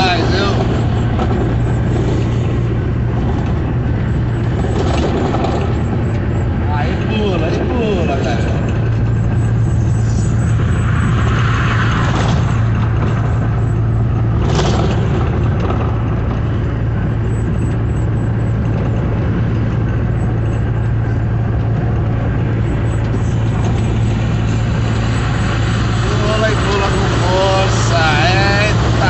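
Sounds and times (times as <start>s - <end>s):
road noise: 0.0s - 29.0s
truck engine drone: 0.0s - 29.0s.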